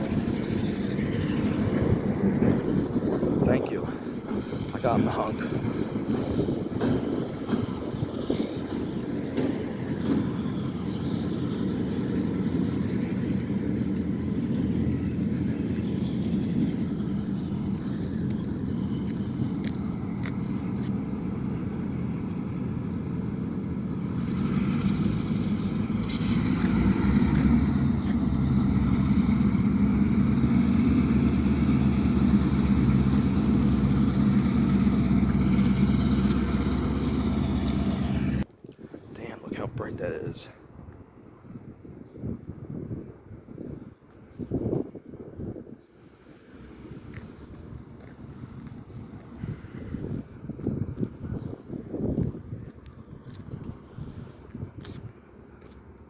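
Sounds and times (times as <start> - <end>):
diesel locomotive engine running: 0.0 - 38.5, 45.6 - 56.0.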